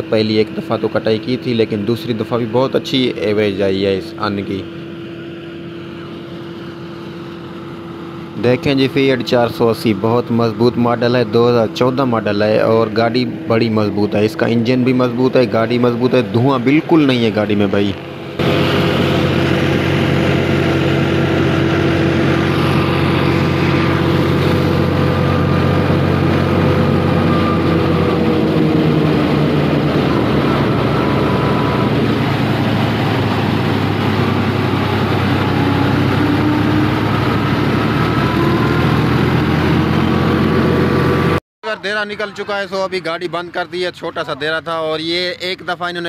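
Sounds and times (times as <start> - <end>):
threshing machine running: 0.0 - 42.0
whining drive tone: 0.0 - 43.7
tractor diesel engine running: 0.0 - 46.0.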